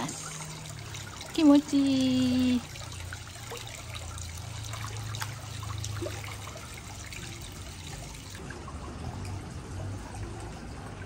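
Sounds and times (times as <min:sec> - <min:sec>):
small splashes and drips: 0:00.0 - 0:11.0
water trickling and lapping: 0:00.0 - 0:11.0.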